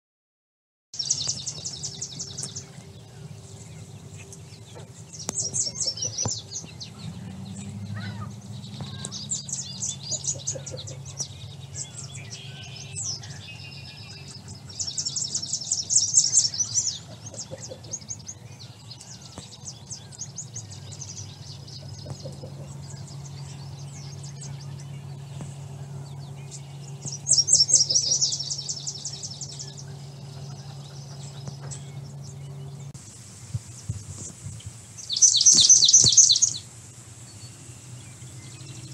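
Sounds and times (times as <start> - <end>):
other birds calling: 1.0 - 38.9
songbird rapid rattling song: 1.0 - 38.9
steady low rumble: 1.0 - 38.9.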